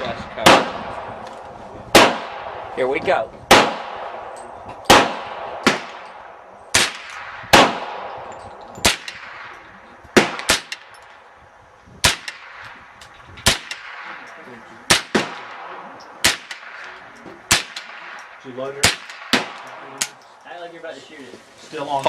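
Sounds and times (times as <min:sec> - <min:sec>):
rifle gunshots with echo: 0:00.0 - 0:11.3, 0:12.0 - 0:20.2.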